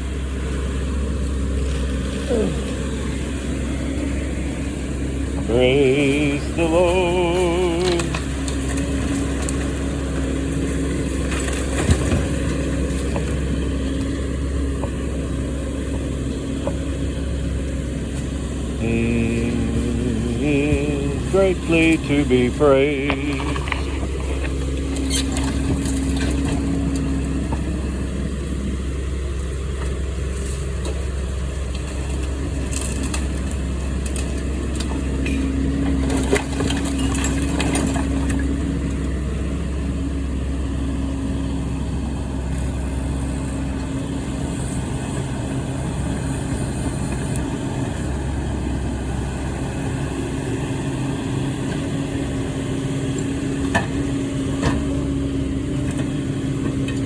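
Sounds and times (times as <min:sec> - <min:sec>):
heavy machine engine running: 0:00.0 - 0:57.0.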